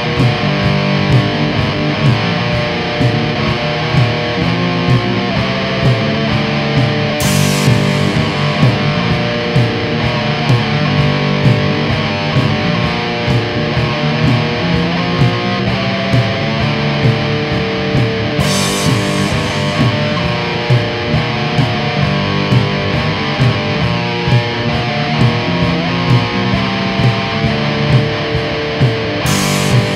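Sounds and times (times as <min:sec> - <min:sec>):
distorted electric guitars: 0:00.0 - 0:29.9
drums: 0:00.0 - 0:29.9.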